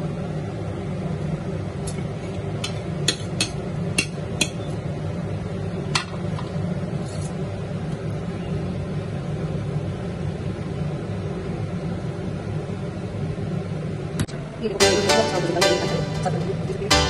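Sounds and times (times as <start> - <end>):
low kitchen hum: 0.0 - 17.0.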